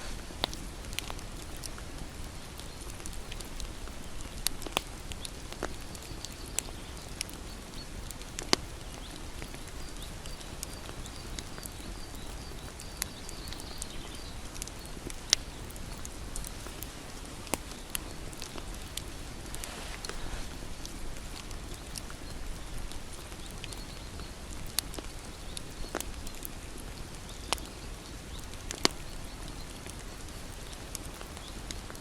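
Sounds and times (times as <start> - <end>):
bonfire rushing: 0.0 - 31.9
wood crackling and popping: 0.0 - 32.0.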